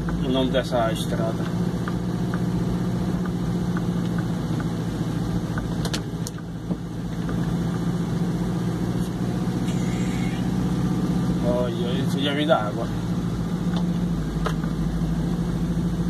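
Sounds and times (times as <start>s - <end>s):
truck engine humming: 0.0s - 16.0s.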